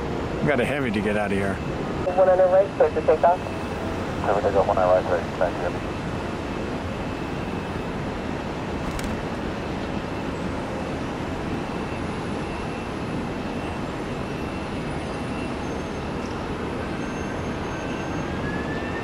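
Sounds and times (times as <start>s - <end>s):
faint high engine whine: 0.0s - 19.0s
jet engines rumble and hiss: 0.0s - 19.0s.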